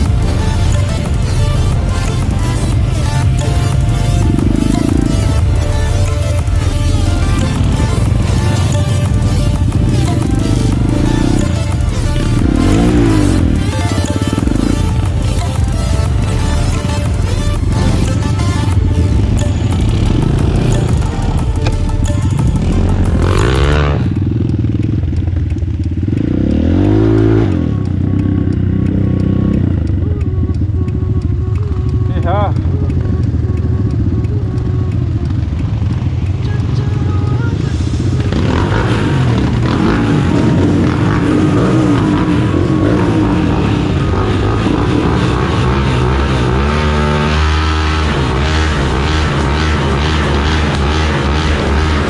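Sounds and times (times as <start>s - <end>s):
atv engine revving: 0.0s - 52.0s
music: 0.0s - 52.0s.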